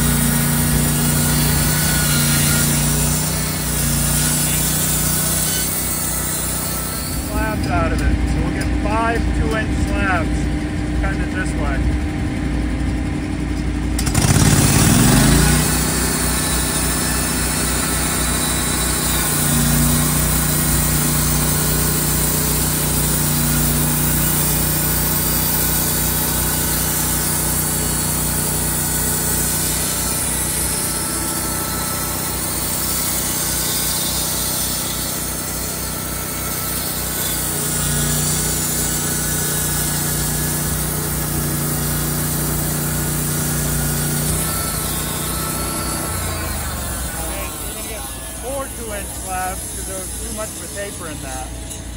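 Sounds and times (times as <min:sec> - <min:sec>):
saw blade cutting log: 0:00.0 - 0:11.8, 0:13.3 - 0:51.9
sawmill engine running: 0:00.0 - 0:51.9.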